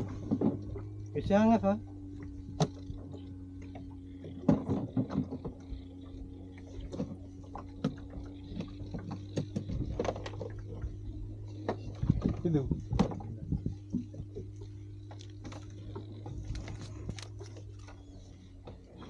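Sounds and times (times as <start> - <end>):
outboard motor humming: 0.0 - 19.0.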